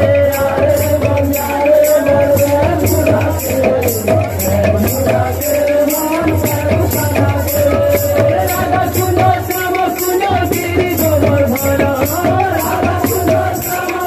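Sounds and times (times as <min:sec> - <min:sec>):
hand-played barrel drums: 0:00.0 - 0:14.0.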